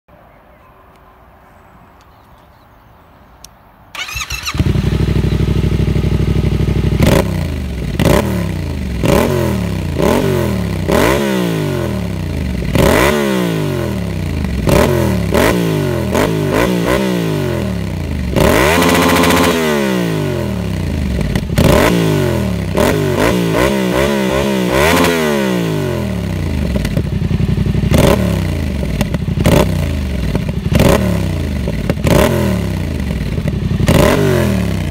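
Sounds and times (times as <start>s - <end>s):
motorcycle engine starting: 3.9s - 34.9s
motorcycle engine revving: 4.0s - 34.9s.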